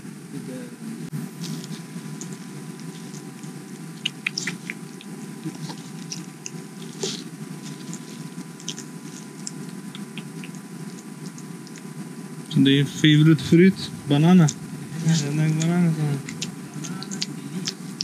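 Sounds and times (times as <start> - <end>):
low background hum: 0.0 - 18.0
lemur chewing leaves: 1.2 - 18.0.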